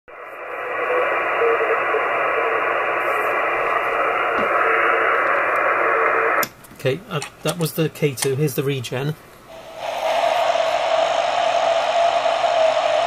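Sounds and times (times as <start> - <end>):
radio band hiss: 0.1 - 13.0.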